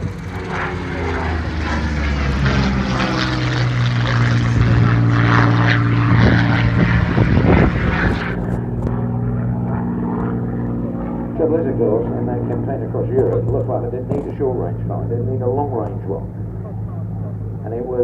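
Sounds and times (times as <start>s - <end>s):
propeller plane engine: 0.0s - 18.0s.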